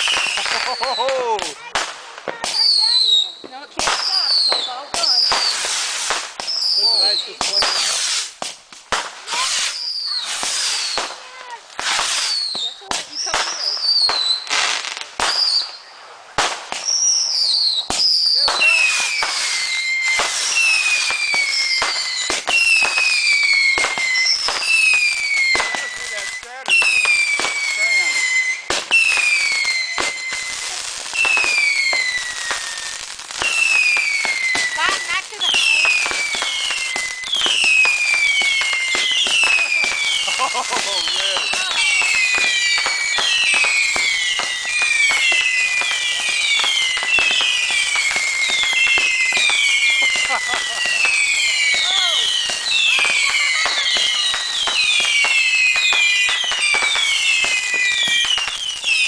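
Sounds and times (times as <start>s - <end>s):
fireworks bangs and crackles: 0.0s - 59.0s
fireworks whistling: 0.0s - 59.0s.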